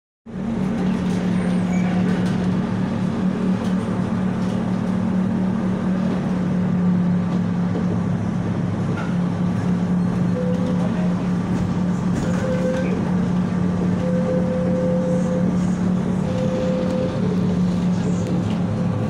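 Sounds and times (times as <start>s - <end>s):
tram running hum: 0.3s - 19.0s.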